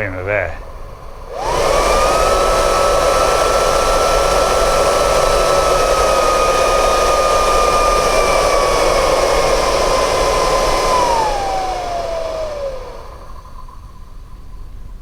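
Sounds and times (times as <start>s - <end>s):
electric blower fan whining: 0.0s - 15.0s.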